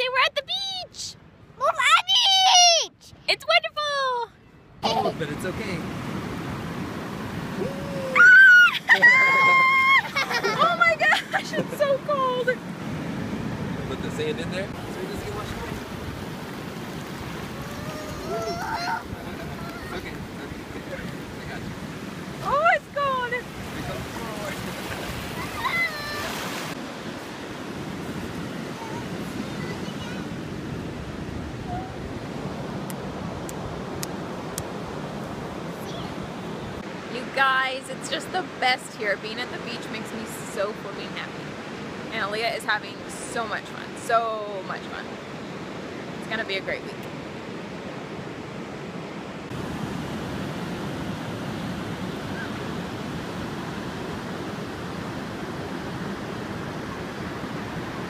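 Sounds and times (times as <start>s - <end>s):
surf washing onto beach: 4.8s - 58.0s.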